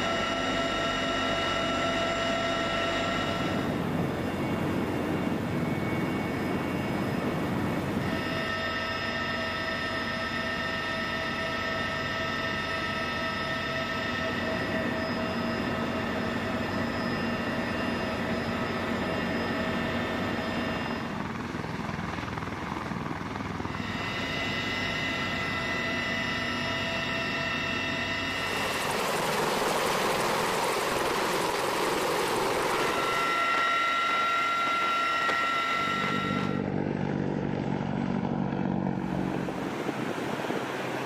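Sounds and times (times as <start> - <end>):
helicopter rotors rushing: 0.0 - 41.0
helicopter turbine whine: 0.0 - 41.0.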